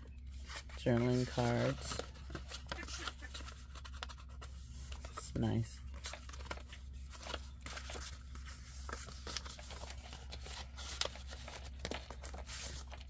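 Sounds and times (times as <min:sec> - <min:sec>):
paper rustling and tapping: 0:00.5 - 0:13.0.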